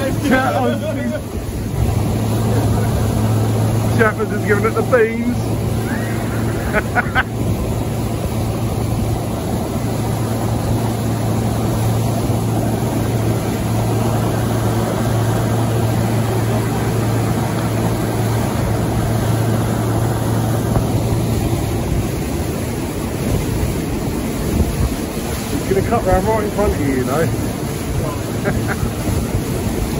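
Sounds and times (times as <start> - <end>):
boat engine droning: 0.0 - 29.9
rushing water: 0.0 - 29.9
wind noise: 5.3 - 29.9.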